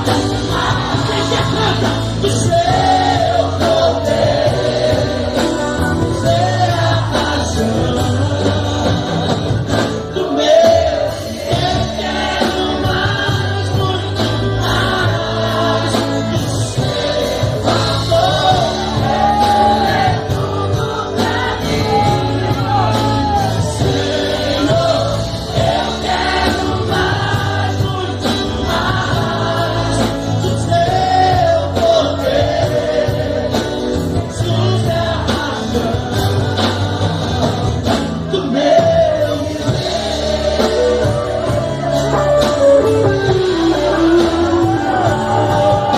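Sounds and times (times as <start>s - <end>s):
acoustic guitar: 0.0s - 45.9s
person singing: 0.0s - 45.9s.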